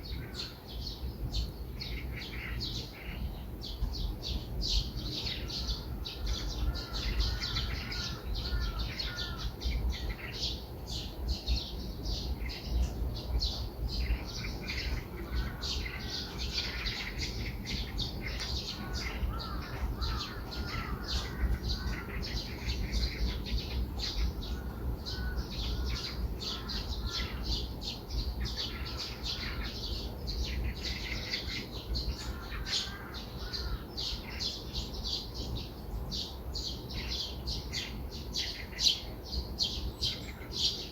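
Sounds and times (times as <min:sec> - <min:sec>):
birds warbling: 0:00.0 - 0:40.9
small birds chirping: 0:00.0 - 0:40.9.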